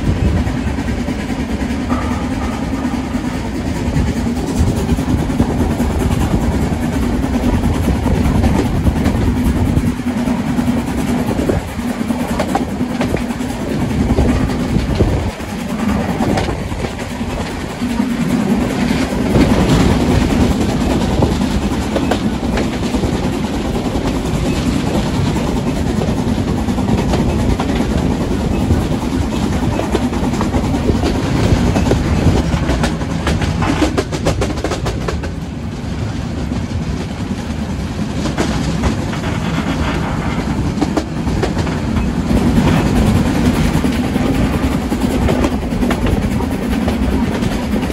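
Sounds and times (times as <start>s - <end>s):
train wheels clicking over rail joints: 0.0s - 47.9s.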